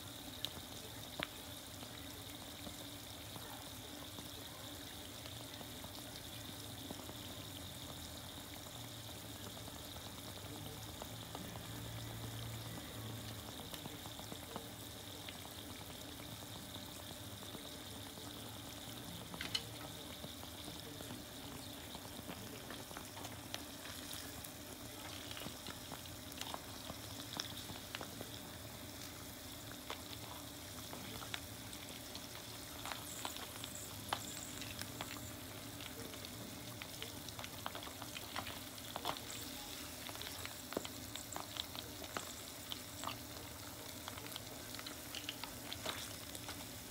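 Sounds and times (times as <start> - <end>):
chicken deep-frying in oil: 0.0 - 46.9
oil popping: 0.0 - 46.9.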